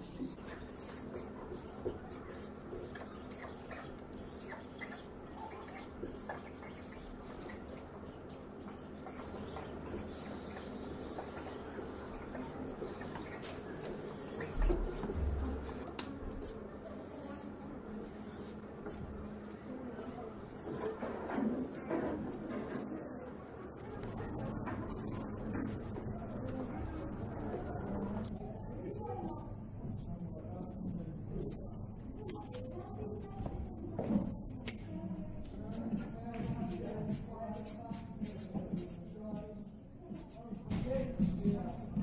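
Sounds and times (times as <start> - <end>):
marker scratching on paper: 0.0 - 22.9, 23.7 - 42.0
faint room hum: 0.0 - 42.0.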